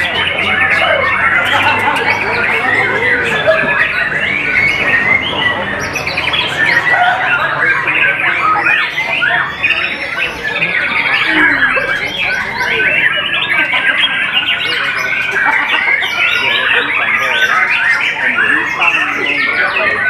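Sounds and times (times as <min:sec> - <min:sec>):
bird singing varied chirps: 0:00.0 - 0:20.0.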